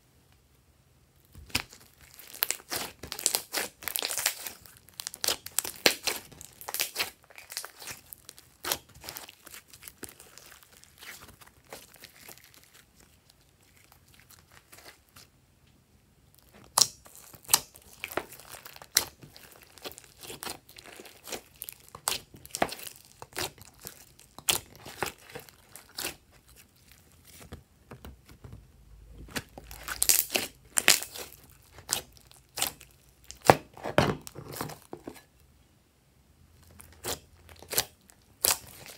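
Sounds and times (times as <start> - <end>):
slime squishing and popping: 1.3 - 12.8, 16.4 - 28.5, 29.2 - 34.9, 36.8 - 38.9.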